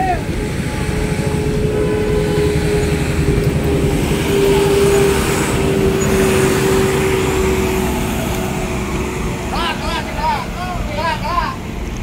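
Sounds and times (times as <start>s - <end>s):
heavy diesel truck engines labouring: 0.0s - 12.0s
motorcycles passing: 0.0s - 12.0s.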